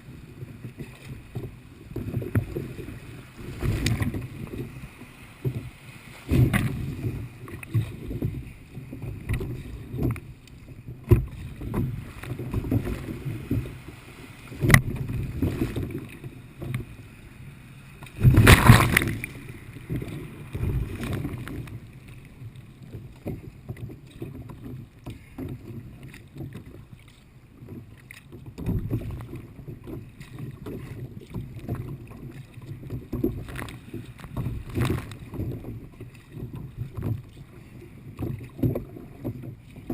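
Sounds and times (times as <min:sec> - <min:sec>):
paddle strokes splashing: 0:00.0 - 0:39.9
water sloshing against hull: 0:00.0 - 0:39.9.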